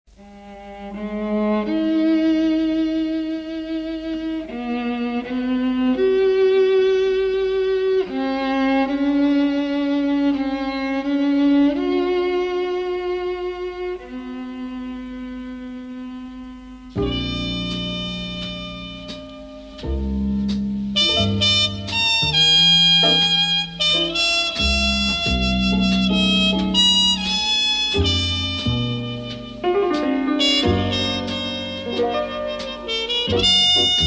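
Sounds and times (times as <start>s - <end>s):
slow jazz instrumental: 0.1s - 34.0s.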